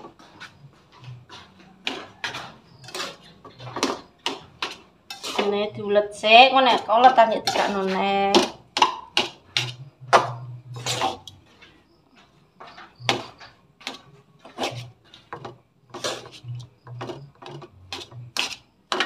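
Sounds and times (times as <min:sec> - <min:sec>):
metal spatula scraping a wok: 0:00.0 - 0:10.0, 0:10.6 - 0:12.0, 0:12.9 - 0:19.0.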